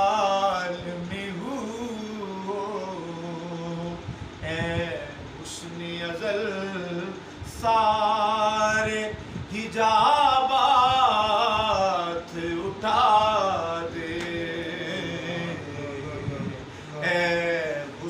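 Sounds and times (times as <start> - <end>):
man singing unaccompanied: 0.0 - 18.0.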